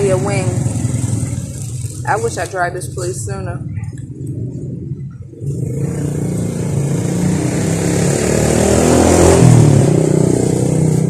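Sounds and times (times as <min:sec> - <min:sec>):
vehicle engine passing: 0:00.0 - 0:11.0.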